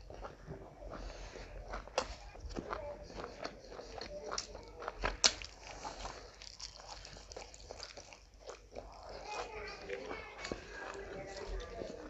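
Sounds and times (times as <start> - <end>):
wet chewing and lip smacks: 0.0 - 12.0.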